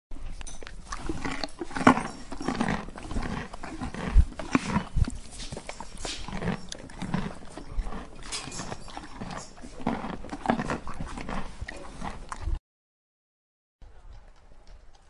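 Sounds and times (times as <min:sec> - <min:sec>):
koala chewing leaves: 0:00.2 - 0:12.6.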